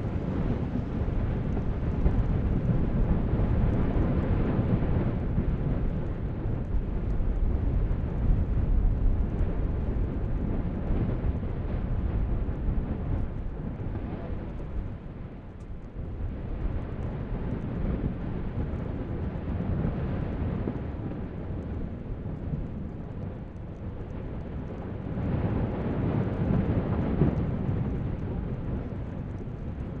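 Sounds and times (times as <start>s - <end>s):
volcanic vent low rumble: 0.0s - 30.0s.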